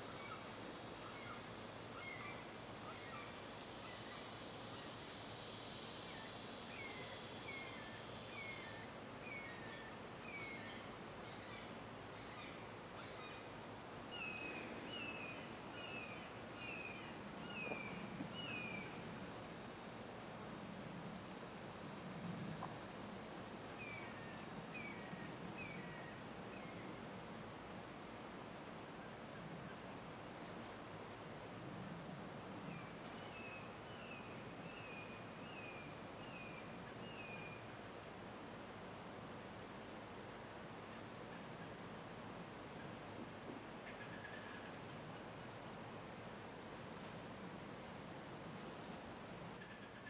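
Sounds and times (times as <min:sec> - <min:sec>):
steady outdoor hiss: 0:00.0 - 0:50.0.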